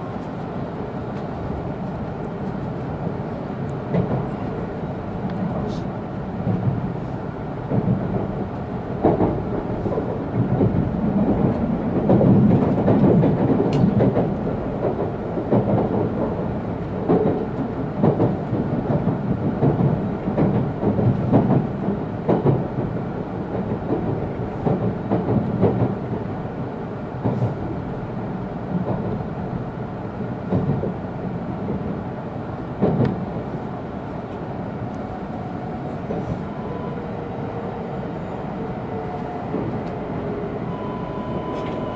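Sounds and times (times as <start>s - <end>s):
train rumbling inside carriage: 0.0s - 41.9s.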